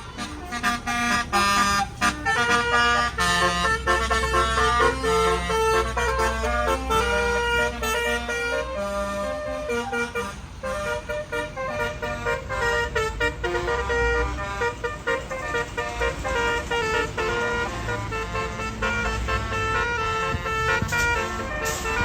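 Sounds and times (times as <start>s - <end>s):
bus engine rumbling: 0.0s - 22.0s
musical air horn playing tune: 0.0s - 22.0s.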